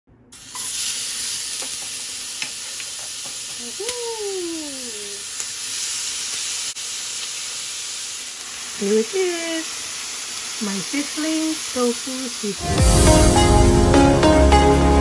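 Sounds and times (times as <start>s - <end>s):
food sizzling on a hot plate: 0.3s - 12.8s.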